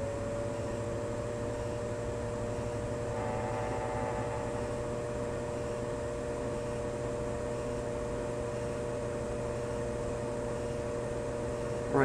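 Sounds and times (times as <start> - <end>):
constant whine: 0.0 - 12.0
forced-air heating system running: 0.0 - 12.0.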